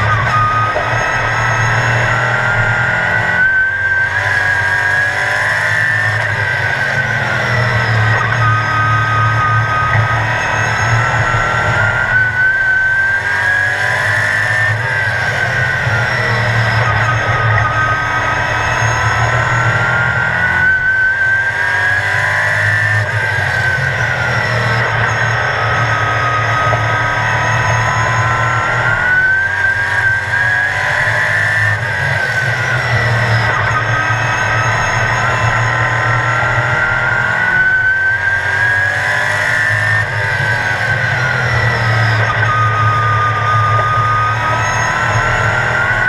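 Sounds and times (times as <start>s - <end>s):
race car engine revving: 0.0s - 46.0s.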